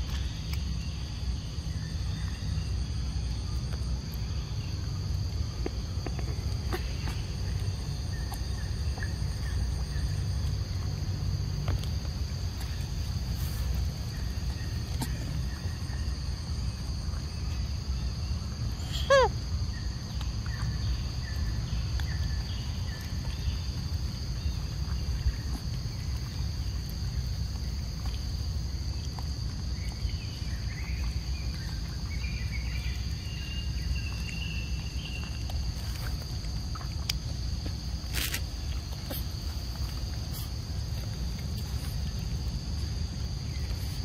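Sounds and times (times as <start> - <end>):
insects droning: 0.0 - 44.0
low outdoor rumble: 0.0 - 44.0.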